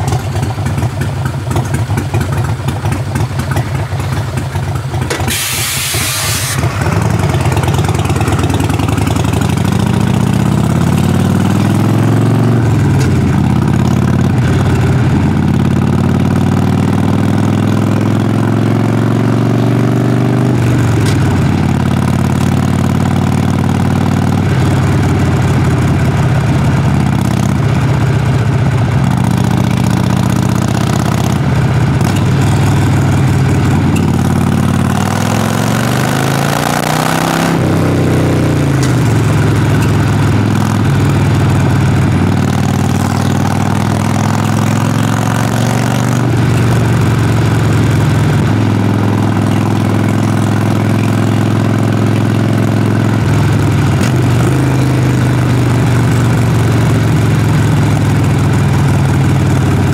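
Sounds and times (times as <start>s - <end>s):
motorcycle exhaust rumbling: 0.0s - 59.9s.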